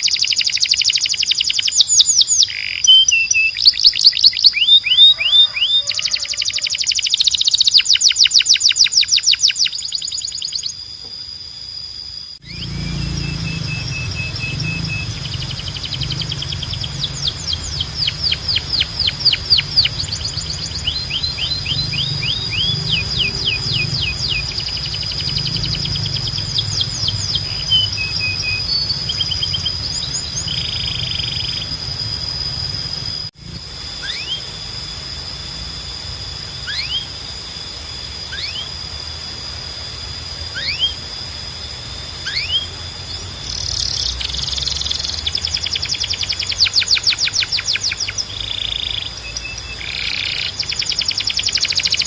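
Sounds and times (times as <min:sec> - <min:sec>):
canaries singing: 0:00.0 - 0:10.9, 0:12.4 - 0:33.3, 0:34.0 - 0:34.6, 0:36.6 - 0:37.2, 0:38.3 - 0:38.8, 0:40.4 - 0:52.0
steady low hum: 0:06.4 - 0:52.0.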